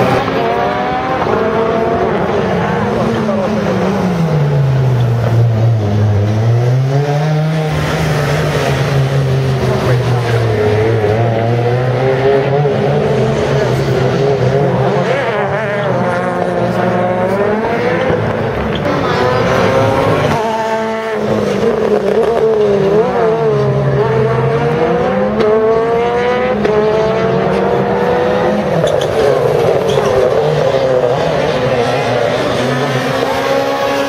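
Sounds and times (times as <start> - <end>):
rally car engine accelerating: 0.0 - 34.0.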